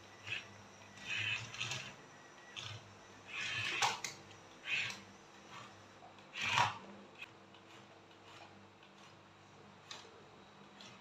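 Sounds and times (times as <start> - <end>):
toy excavator motors whirring: 0.0 - 11.0.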